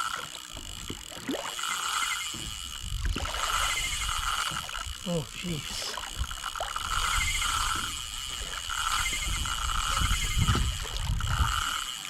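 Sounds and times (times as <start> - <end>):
fishing reel drag buzzing: 0.0 - 12.0.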